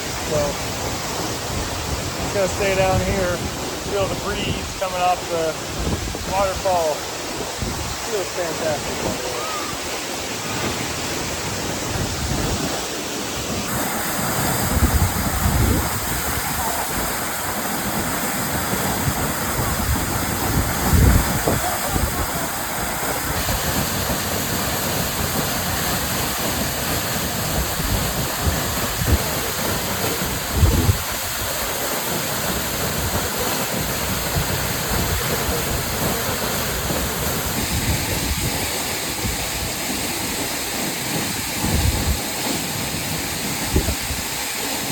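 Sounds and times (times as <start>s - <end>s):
waterfall rushing: 0.0s - 44.9s
wind buffeting microphone: 0.3s - 12.9s, 14.5s - 17.5s, 18.5s - 26.2s, 26.8s - 31.7s, 32.7s - 39.9s, 41.5s - 42.2s, 43.6s - 44.3s.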